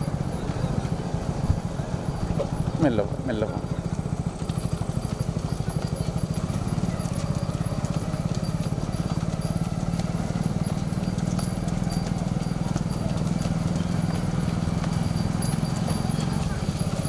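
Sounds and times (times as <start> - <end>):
motorcycle engines puttering: 0.0 - 17.0.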